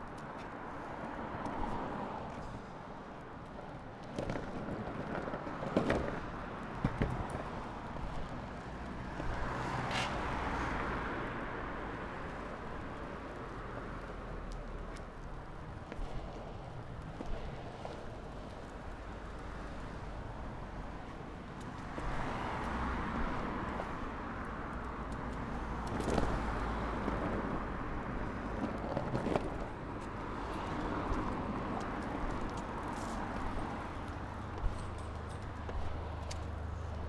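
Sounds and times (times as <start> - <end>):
road traffic passing: 0.0 - 37.0
skateboard wheels rolling on pavement: 0.0 - 37.0.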